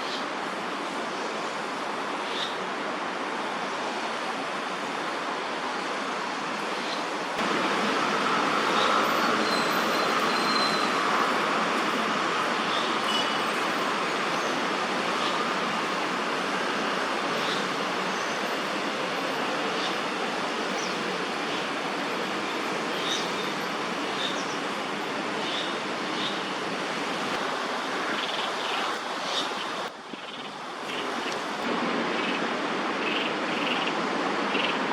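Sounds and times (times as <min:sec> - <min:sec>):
outdoor background hiss: 0:00.0 - 0:34.9.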